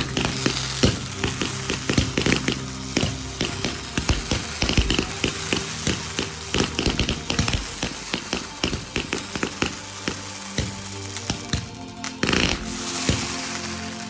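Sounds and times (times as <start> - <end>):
background music: 0.0 - 14.0
fireworks crackling and popping: 0.0 - 14.0.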